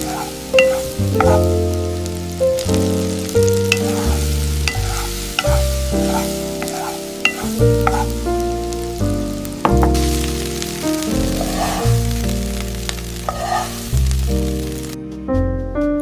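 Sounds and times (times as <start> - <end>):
stirring in a pan: 0.0 - 9.0, 9.6 - 14.2
rice sizzling in a pan: 0.0 - 15.0
gentle background music: 0.0 - 16.0.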